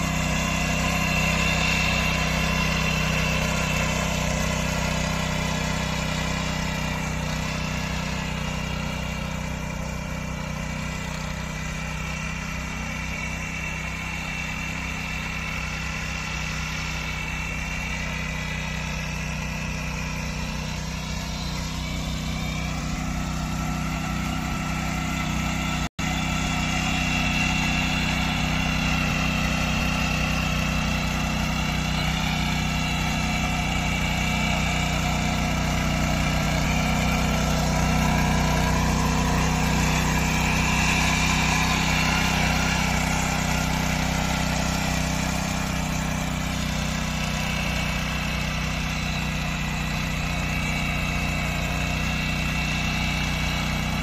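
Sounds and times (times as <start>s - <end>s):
rotary tines churning soil: 0.0s - 54.0s
small petrol engine running: 0.0s - 54.0s.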